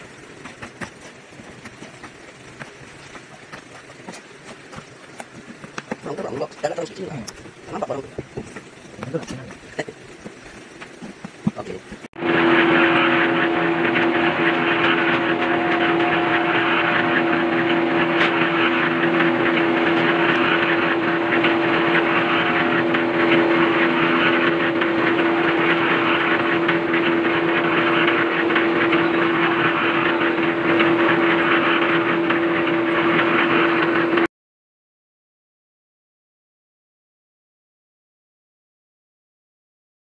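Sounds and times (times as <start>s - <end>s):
drum mixer motor hum: 0.0s - 34.3s
feed tumbling and rattling: 0.0s - 34.3s.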